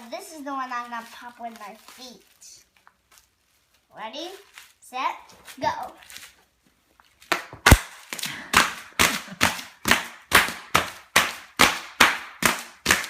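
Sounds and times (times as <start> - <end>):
bubble wrap popping: 0.6 - 13.0.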